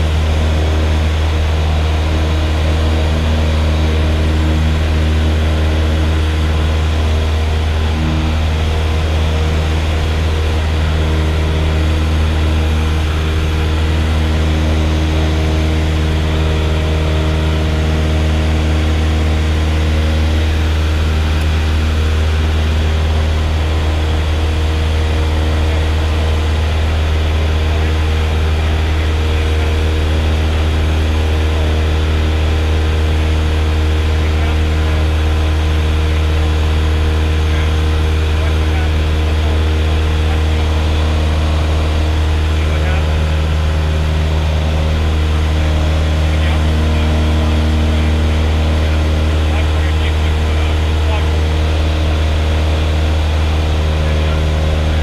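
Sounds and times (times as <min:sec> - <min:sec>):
light plane engine drone: 0:00.0 - 0:55.0.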